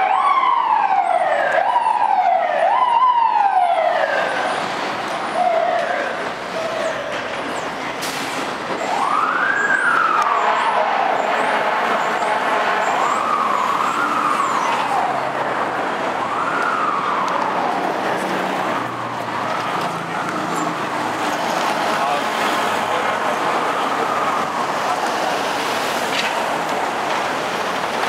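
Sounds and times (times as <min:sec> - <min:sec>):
fire engine siren wailing: 0:00.0 - 0:28.0
street traffic: 0:00.0 - 0:28.0.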